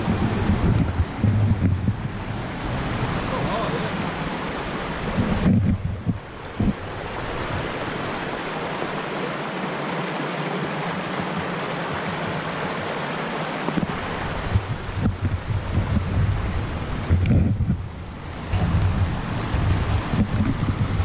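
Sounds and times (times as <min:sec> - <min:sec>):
wind gusts on microphone: 0:00.0 - 0:09.2, 0:10.6 - 0:21.0
water rushing over rocks: 0:00.0 - 0:21.0.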